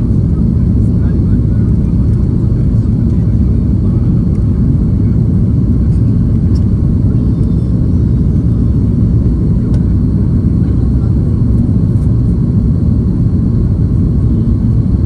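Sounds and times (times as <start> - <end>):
jet cabin noise rumble: 0.0 - 15.0.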